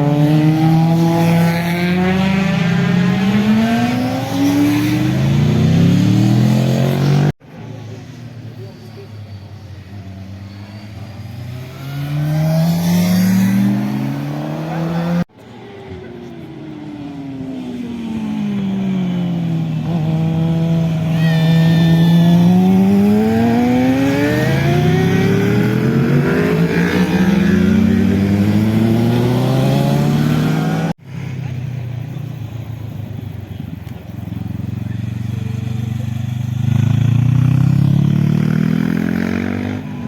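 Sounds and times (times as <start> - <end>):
motorcycle engines accelerating: 0.0 - 40.0.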